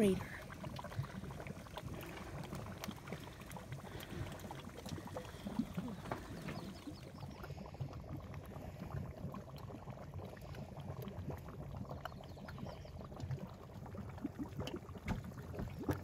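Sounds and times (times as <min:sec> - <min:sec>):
mud bubbling and popping: 0:00.0 - 0:16.0.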